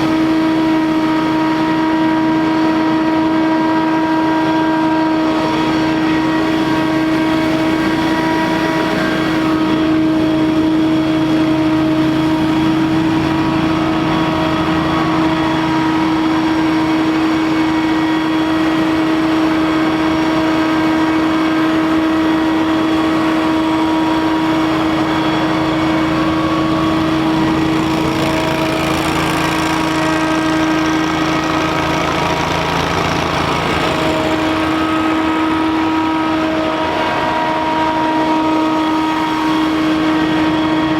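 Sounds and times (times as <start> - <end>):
debris blower running: 0.0 - 40.9.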